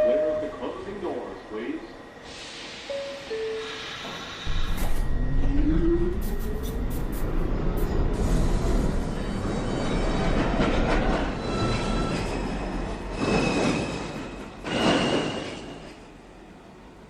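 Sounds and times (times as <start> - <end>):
subway train motors whining: 0.0 - 17.0.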